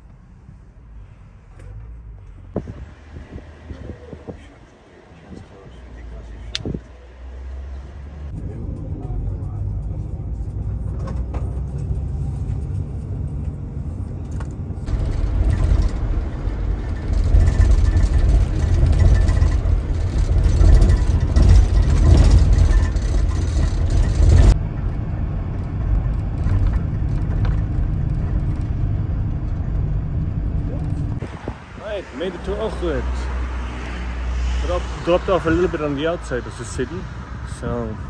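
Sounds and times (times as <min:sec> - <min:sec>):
minibus engine and road rumble: 0:00.0 - 0:38.0.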